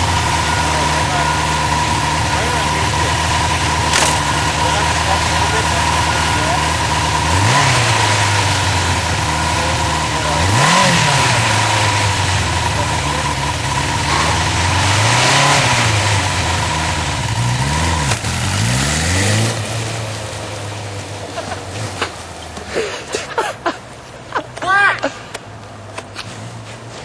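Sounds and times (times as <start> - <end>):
motorcycle engine revving: 0.0 - 23.4.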